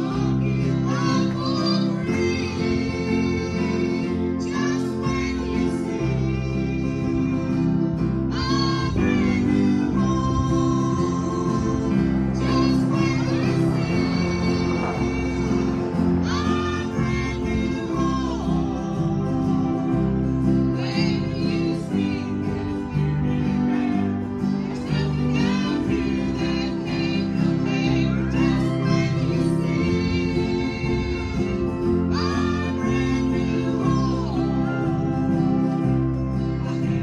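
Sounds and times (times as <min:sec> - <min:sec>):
guitars: 0:00.0 - 0:37.0
keyboard: 0:00.0 - 0:37.0
people singing gospel together: 0:00.0 - 0:37.0.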